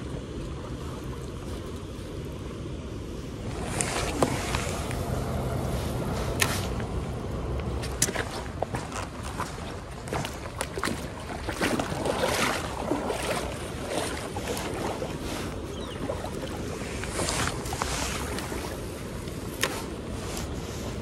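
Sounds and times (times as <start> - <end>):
river water splashing: 0.0 - 21.0.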